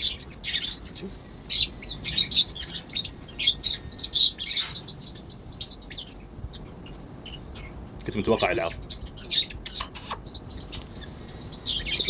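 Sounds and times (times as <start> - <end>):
pet birds chirping: 0.0 - 12.0.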